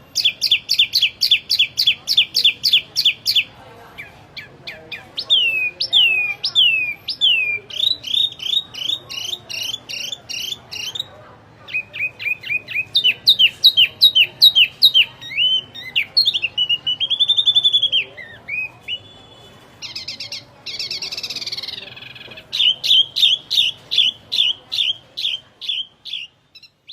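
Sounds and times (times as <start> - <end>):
songbird whistling: 0.2 - 4.5, 5.2 - 11.1, 11.7 - 26.9.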